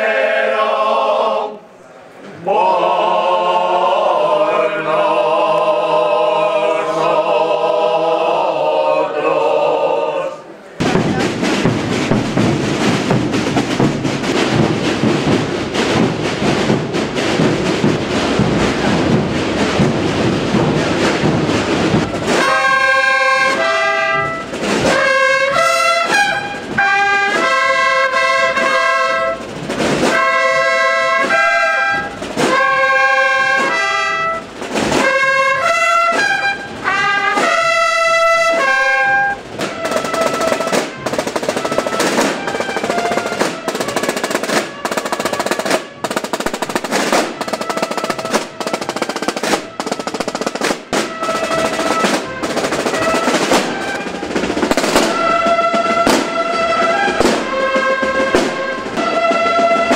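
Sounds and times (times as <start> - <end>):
bugle fanfare: 10.8 - 59.9
snare drum rolls: 10.8 - 59.9.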